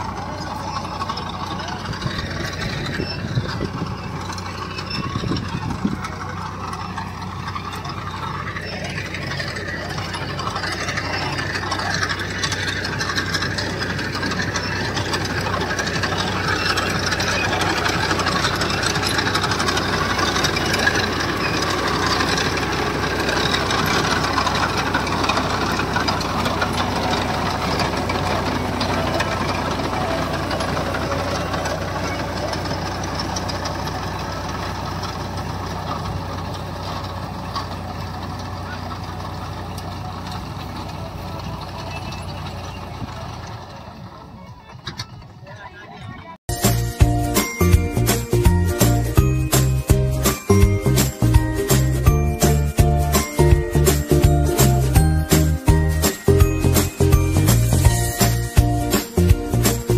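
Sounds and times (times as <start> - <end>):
engine running with rattle: 0.0 - 59.9.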